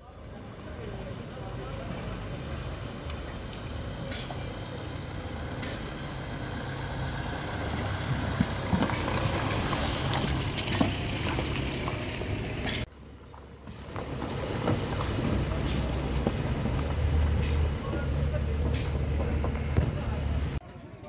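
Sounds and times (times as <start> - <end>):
vehicle engines driving slowly: 0.0 - 21.0.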